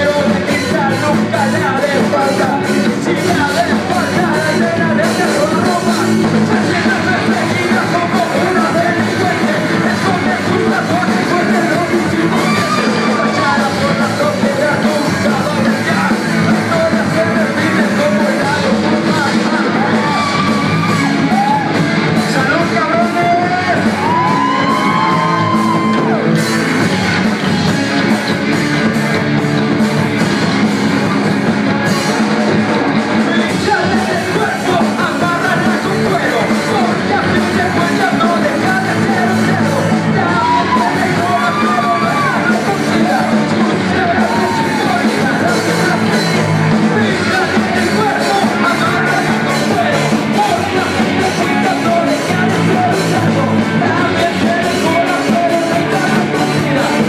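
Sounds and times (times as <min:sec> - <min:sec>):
live rock band: 0:00.0 - 0:57.0
people singing and yelling: 0:00.0 - 0:57.0.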